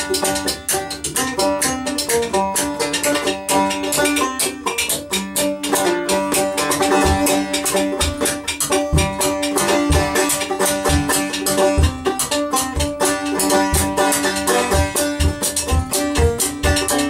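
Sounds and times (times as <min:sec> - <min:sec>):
banjo picking: 0:00.0 - 0:17.0
cajon: 0:00.0 - 0:17.0
washtub bass: 0:00.0 - 0:17.0.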